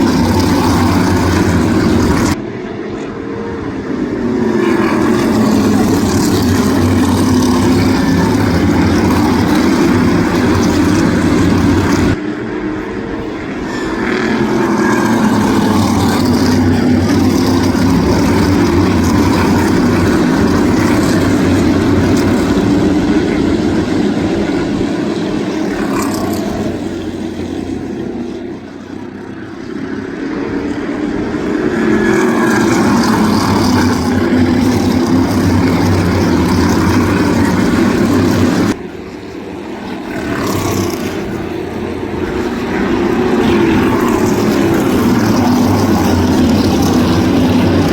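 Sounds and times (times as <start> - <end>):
race cars passing at full speed: 0.0 - 47.9.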